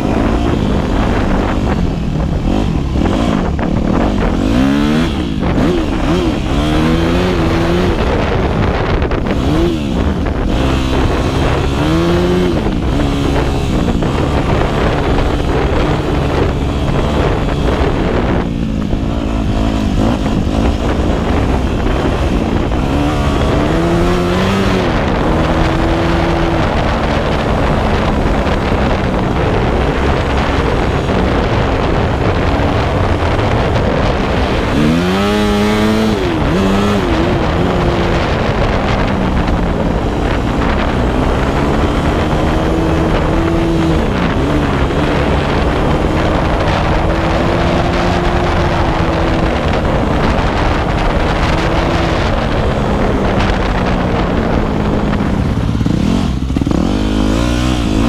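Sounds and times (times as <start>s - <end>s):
dirt bike engine: 0.0s - 58.0s
wind on microphone: 0.0s - 58.0s.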